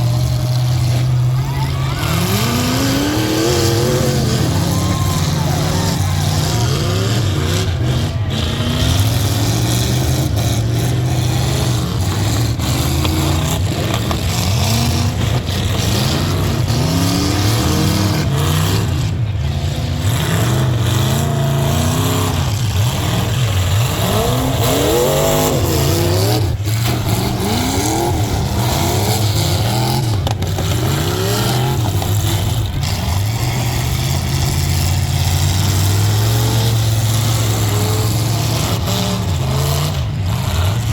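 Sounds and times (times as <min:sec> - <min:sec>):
constant low rumble: 0:00.0 - 0:40.9
truck engines revving: 0:00.0 - 0:40.9.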